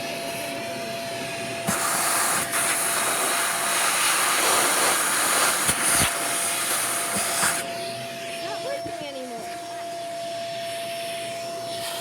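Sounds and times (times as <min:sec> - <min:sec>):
vacuum cleaner air rush: 0:00.0 - 0:12.0.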